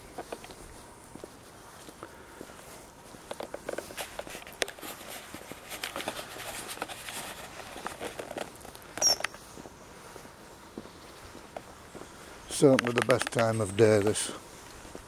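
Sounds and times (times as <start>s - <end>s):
footsteps on a path: 0.0s - 15.0s.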